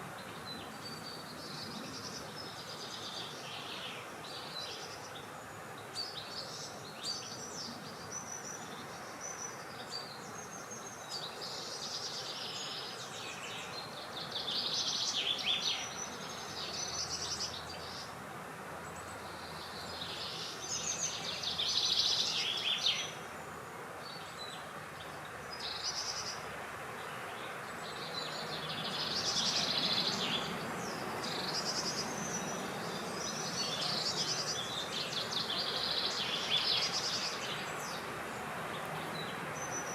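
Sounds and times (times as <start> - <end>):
steady wind-like hiss: 0.0 - 39.9
wild birds chirping: 0.0 - 39.9.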